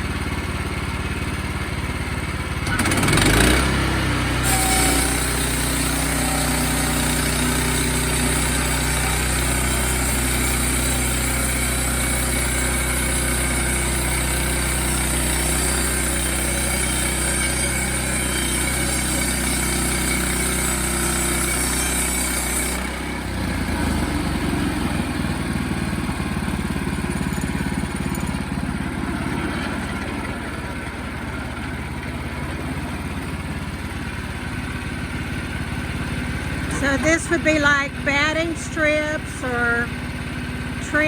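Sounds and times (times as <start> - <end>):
sawmill engine running: 0.0 - 41.0.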